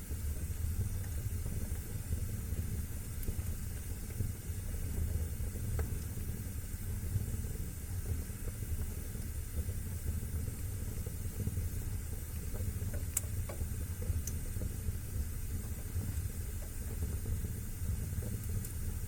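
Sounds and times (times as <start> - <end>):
fire crackles and pops: 0.0 - 19.0
fire rumbling and hissing: 0.0 - 19.0.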